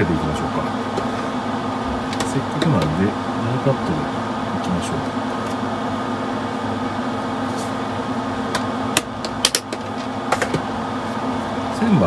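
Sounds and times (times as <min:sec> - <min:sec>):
exhaust fan humming: 0:00.0 - 0:12.0.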